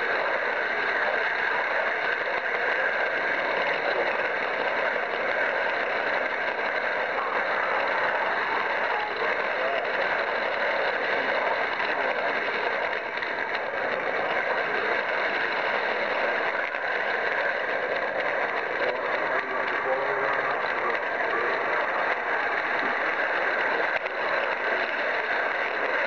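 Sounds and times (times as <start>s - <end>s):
model train motor purring: 0.0s - 26.0s.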